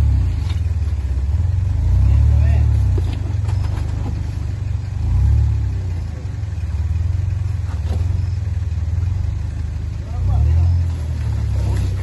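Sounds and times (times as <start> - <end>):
car engine rumbling at low revs: 0.0 - 12.0.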